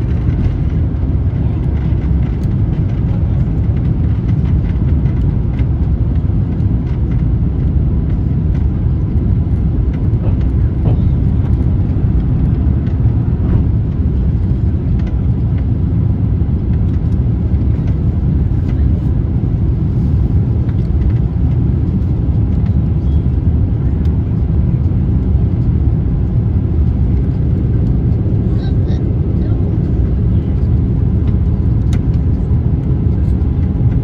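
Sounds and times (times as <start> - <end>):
jet engines and airflow rumble: 0.0 - 34.0.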